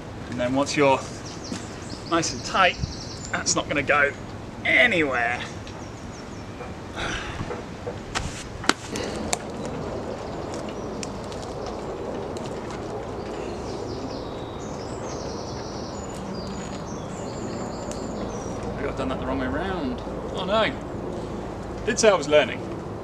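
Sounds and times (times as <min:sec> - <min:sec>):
outdoor background noise: 0:00.0 - 0:23.0
small birds chirping: 0:00.7 - 0:07.6, 0:08.9 - 0:21.9.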